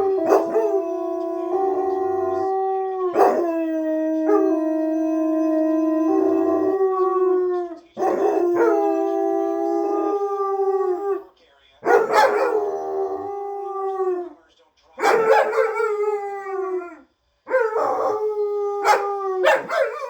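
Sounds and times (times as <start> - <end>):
puppies howling: 0.0 - 14.4, 15.0 - 20.0.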